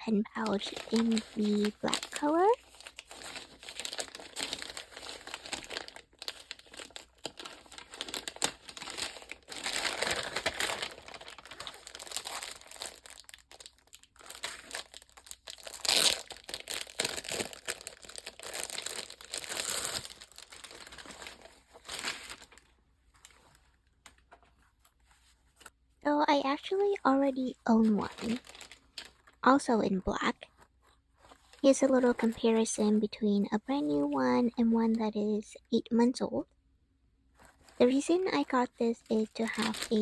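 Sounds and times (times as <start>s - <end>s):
packaging crinkling and rustling: 0.3s - 25.7s, 26.7s - 29.4s, 30.5s - 33.0s, 37.4s - 40.0s.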